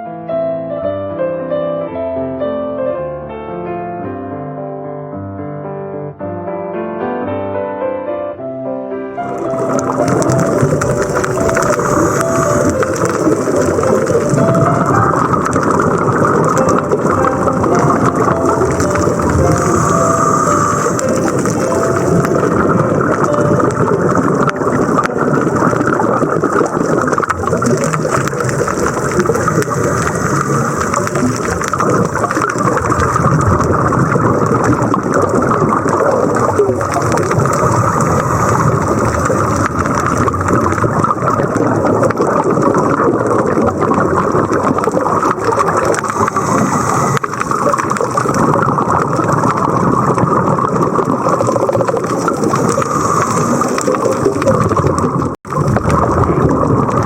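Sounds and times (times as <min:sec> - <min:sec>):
water rushing and rumbling: 0:09.2 - 0:57.0.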